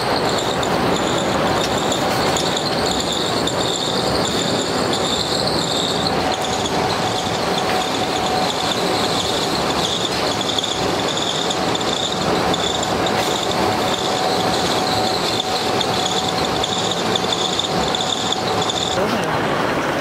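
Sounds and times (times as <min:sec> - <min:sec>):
heavy machinery drone: 0:00.0 - 0:20.0
pulsing high whine: 0:00.0 - 0:20.0.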